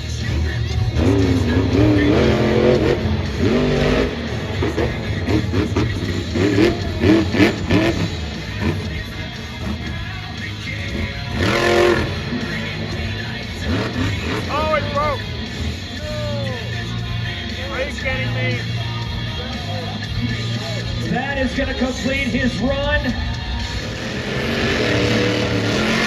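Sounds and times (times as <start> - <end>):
truck engine revving hard: 0.0 - 18.7, 23.2 - 26.0
arena music on loudspeakers: 0.0 - 26.0.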